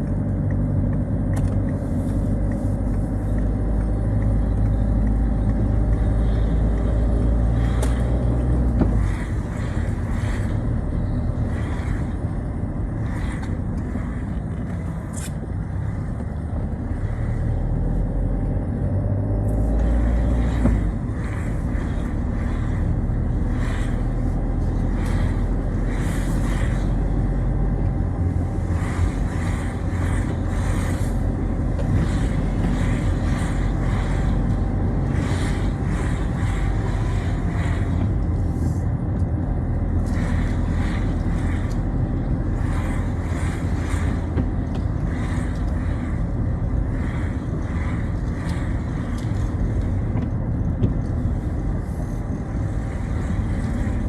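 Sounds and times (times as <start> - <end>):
car engine and road rumble: 0.0 - 54.0
hissing tyre spray: 0.9 - 54.0.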